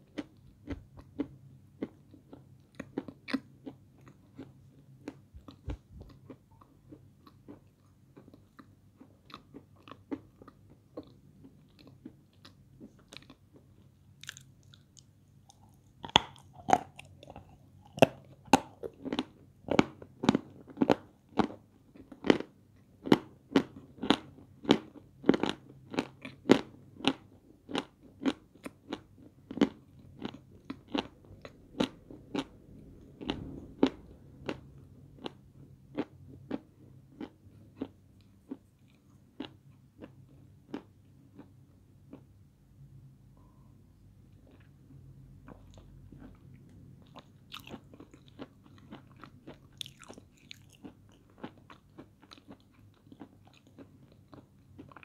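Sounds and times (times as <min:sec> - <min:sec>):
crunchy chewing: 0:00.0 - 0:42.3, 0:45.4 - 0:55.0.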